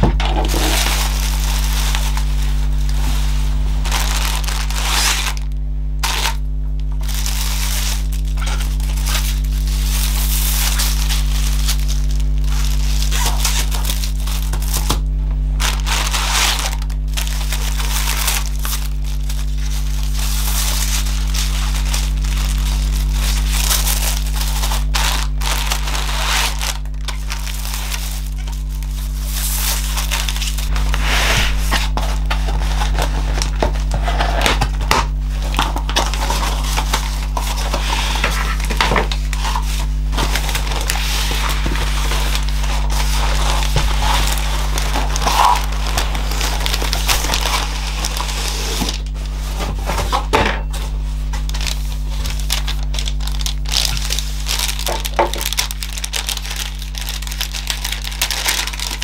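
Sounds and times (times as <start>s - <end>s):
paper and plastic crinkling: 0.0s - 59.0s.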